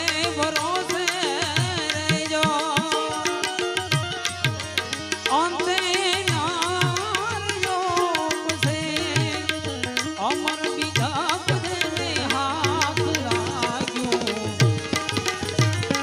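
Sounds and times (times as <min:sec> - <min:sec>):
tabla playing: 0:00.0 - 0:16.0.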